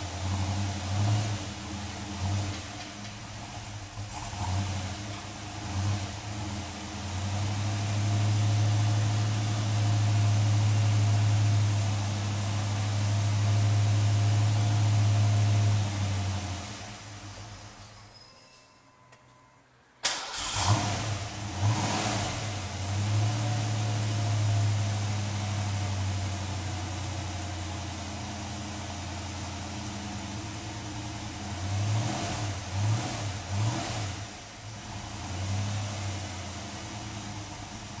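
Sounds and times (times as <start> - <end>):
car engine idling with revs: 0.0 - 17.8, 20.3 - 38.0.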